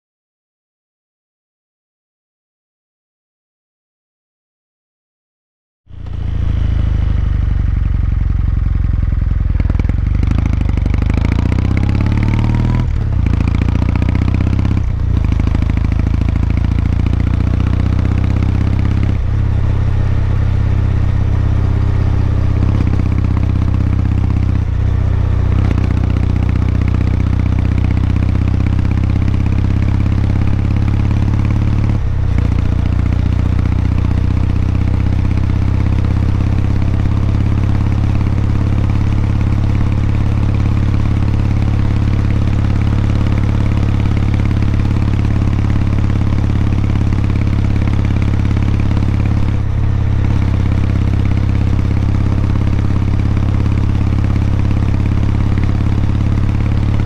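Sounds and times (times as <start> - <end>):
motorcycle engine running: 5.9 - 57.0.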